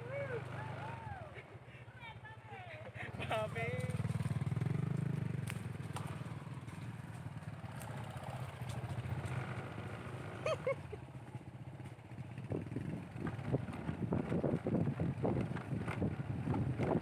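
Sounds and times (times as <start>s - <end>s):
motorcycle engine running: 2.4s - 17.0s.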